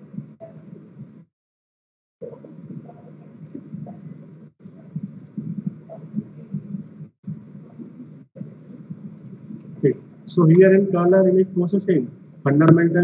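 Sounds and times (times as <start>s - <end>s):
low rumbling background noise: 2.2s - 13.0s.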